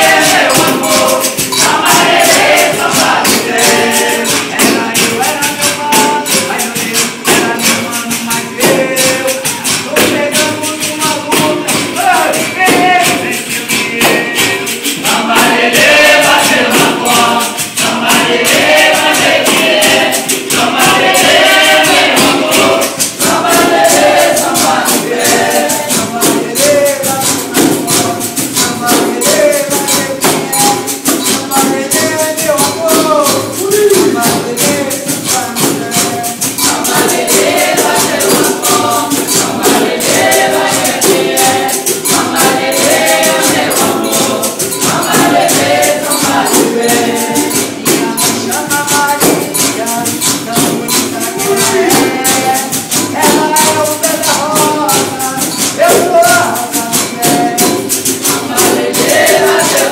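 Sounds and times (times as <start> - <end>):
berimbau and pandeiro rhythm: 0.0 - 59.9
group singing: 0.0 - 59.9.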